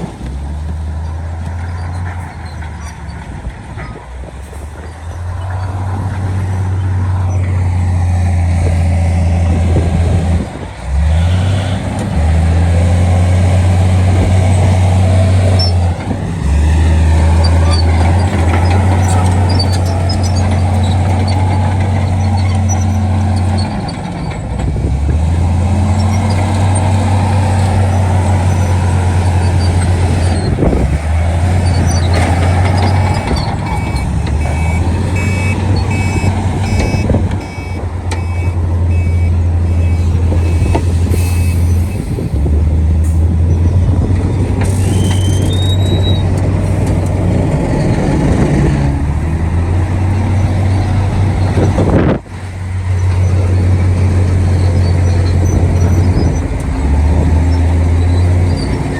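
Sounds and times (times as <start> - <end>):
heavy diesel engine droning: 0.0 - 58.9.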